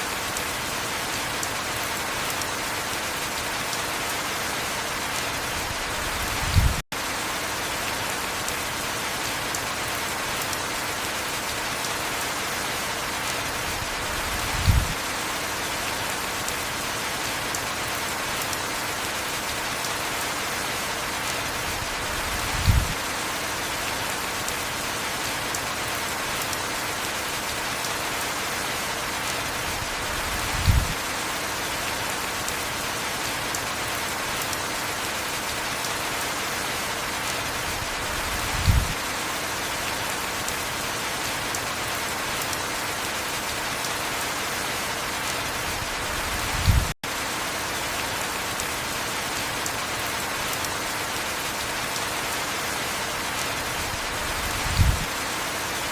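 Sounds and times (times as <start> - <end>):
heavy rainfall hiss: 0.0 - 55.9.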